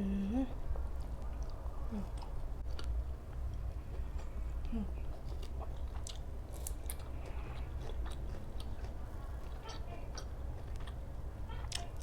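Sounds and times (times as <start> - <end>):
steady low hum: 0.0 - 12.0
person chewing food: 0.9 - 12.0.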